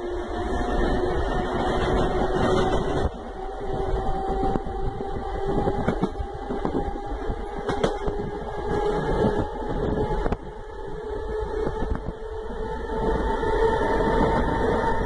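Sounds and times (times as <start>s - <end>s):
electric train motors humming: 0.0s - 15.0s.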